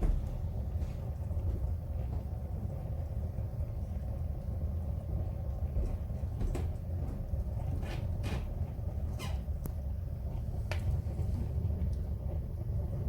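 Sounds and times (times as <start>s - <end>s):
fire rumbling: 0.0s - 13.0s
wood crackling and popping: 0.0s - 13.0s.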